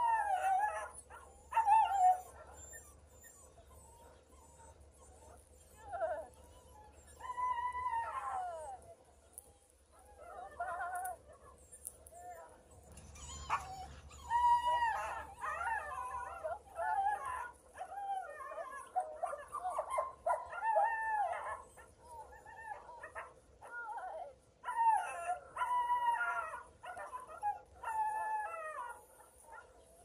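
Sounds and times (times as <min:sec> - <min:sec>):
puppy whining and yelping: 0:00.0 - 0:30.0.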